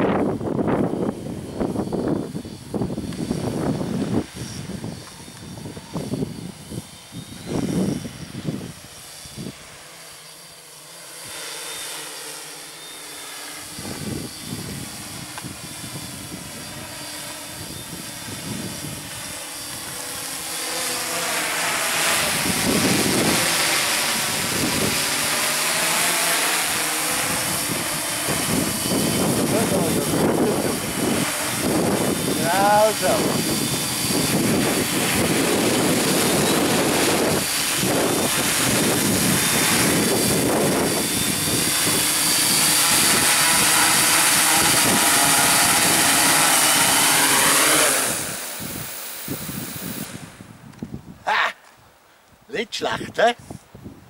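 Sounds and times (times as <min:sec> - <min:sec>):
low gusts of noise: 0:00.0 - 0:09.9, 0:13.6 - 0:54.0
drone propellers whining: 0:00.0 - 0:51.6.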